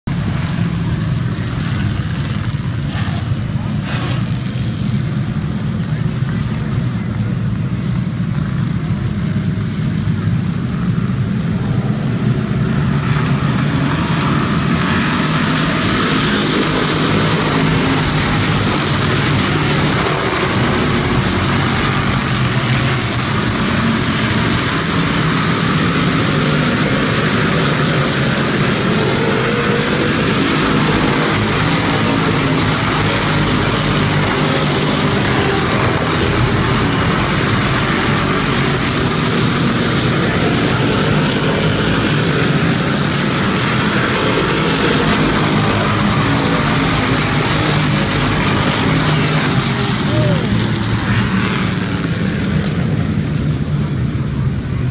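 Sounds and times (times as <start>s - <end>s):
race car engines at full throttle: 0.0s - 54.9s.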